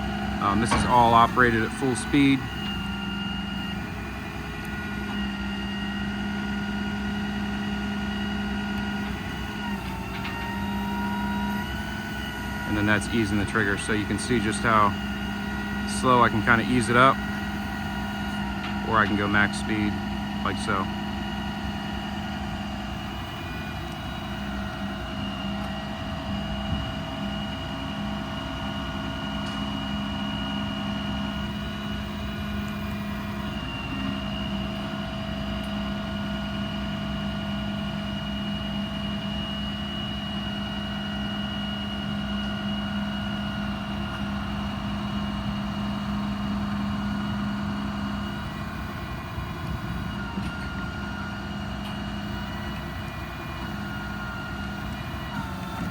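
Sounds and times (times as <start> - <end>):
crane hydraulics whining: 0.0 - 55.9
diesel engine running: 0.0 - 55.9.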